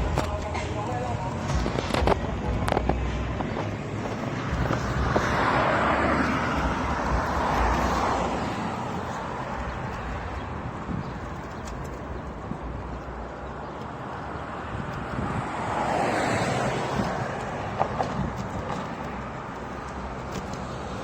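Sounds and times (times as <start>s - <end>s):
vehicle passing: 0.0s - 13.2s, 13.9s - 21.0s
street traffic: 0.0s - 21.0s
wind rumbling on microphone: 0.0s - 21.0s.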